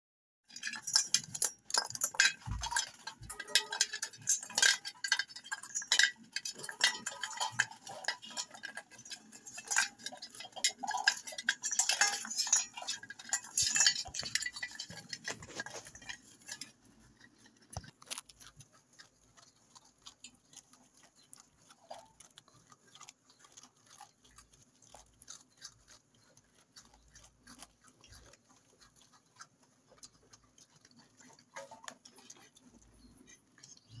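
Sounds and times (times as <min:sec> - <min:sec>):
animal eating from metal bowl: 0:00.4 - 0:34.0.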